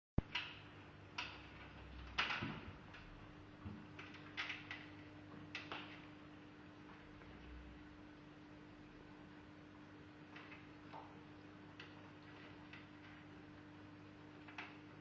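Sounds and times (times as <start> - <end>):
low steady hum: 0.2 - 15.0.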